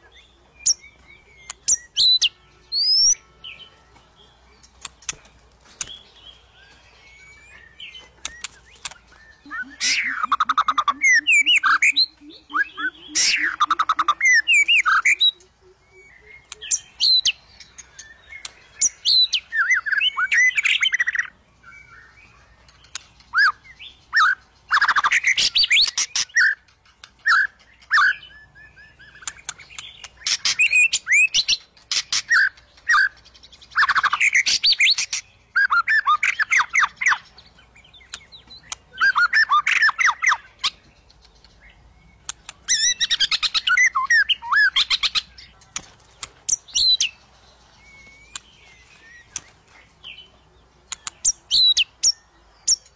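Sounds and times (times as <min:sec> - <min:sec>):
songbird whistling and chattering: 0:00.0 - 0:03.6, 0:05.8 - 0:50.3, 0:50.9 - 0:52.9.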